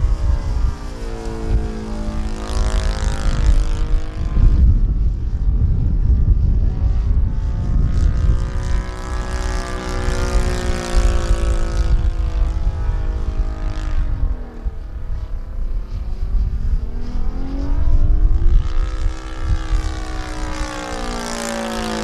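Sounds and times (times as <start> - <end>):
model airplane engine: 0.0 - 22.0.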